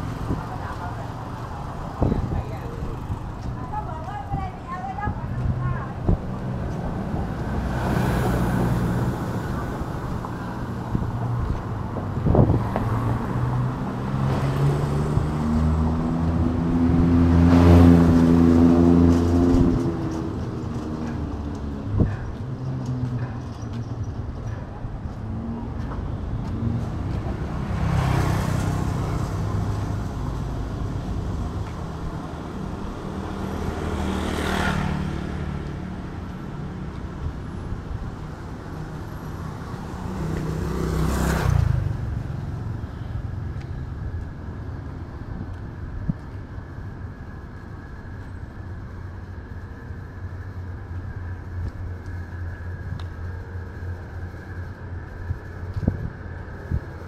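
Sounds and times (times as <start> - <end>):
low rumble of road traffic: 0.0 - 57.0
vehicles passing close by: 0.0 - 57.0.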